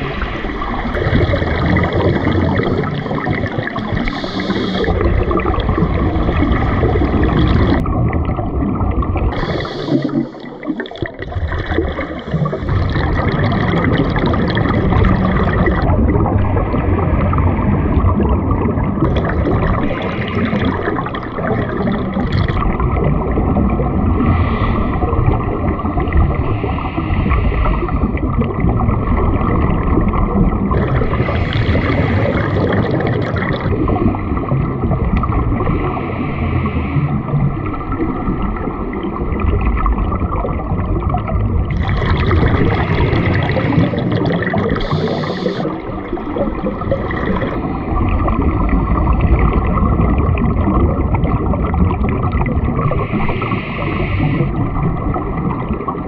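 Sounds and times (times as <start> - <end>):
underwater bubbling and gurgling: 0.0 - 56.0.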